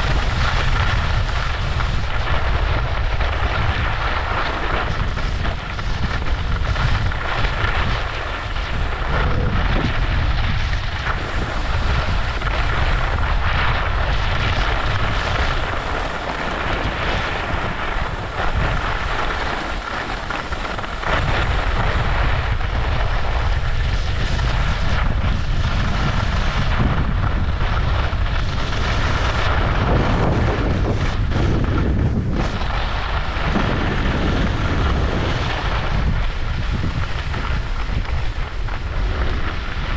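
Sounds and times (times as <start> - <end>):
skis scraping over snow: 0.0 - 39.9
wind buffeting microphone: 0.0 - 39.9.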